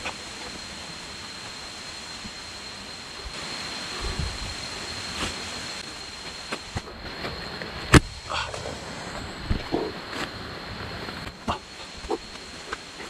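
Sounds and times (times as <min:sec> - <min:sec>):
stream and waterfall rushing: 0:00.0 - 0:13.0.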